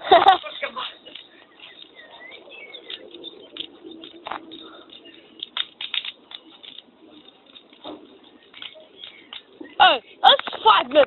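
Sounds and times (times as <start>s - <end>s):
wood bonfire crackling and popping: 0.0s - 11.0s.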